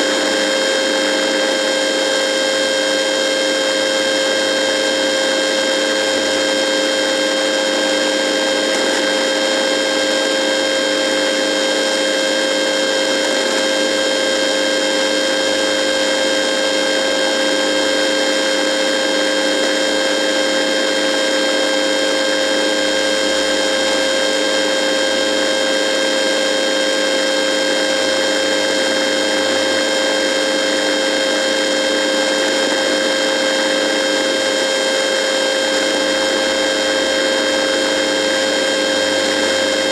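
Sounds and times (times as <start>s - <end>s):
radio electrical buzz: 0.0s - 39.9s.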